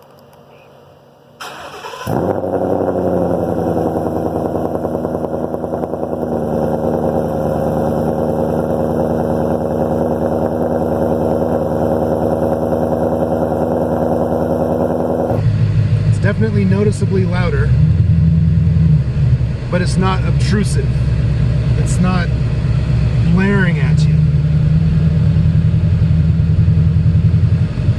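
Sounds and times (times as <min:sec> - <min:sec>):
car engine starting and idling: 0:01.4 - 0:27.9.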